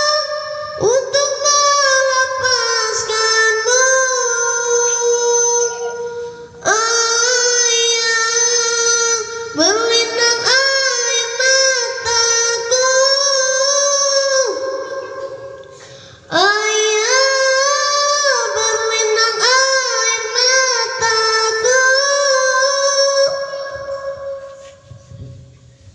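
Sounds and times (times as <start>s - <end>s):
child chanting: 0.0s - 25.6s.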